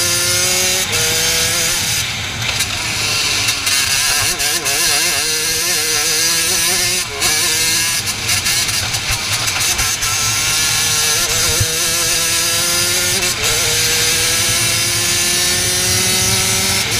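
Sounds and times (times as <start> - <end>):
kart engine running hard: 0.0 - 16.9.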